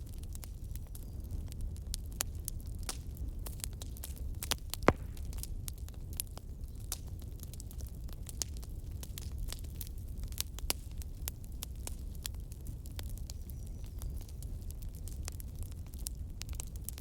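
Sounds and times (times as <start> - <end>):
bonfire snaps and pops: 0.0 - 17.0
low rumble of burning: 0.0 - 17.0.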